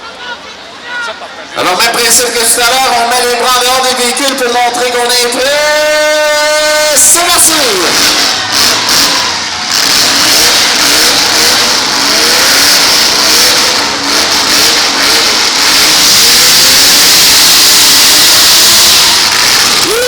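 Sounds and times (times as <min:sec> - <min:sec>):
car engines revving: 0:01.5 - 0:20.0.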